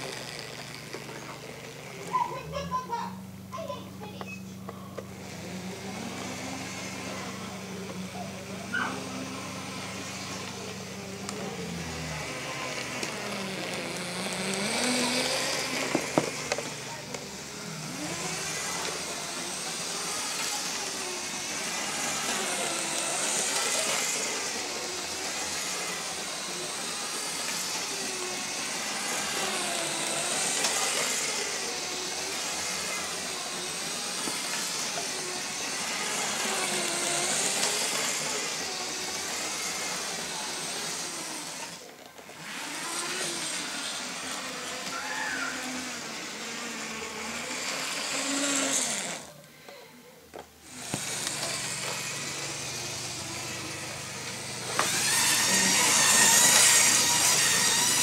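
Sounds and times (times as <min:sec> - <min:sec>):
toy train motor whining: 0:00.0 - 0:58.0.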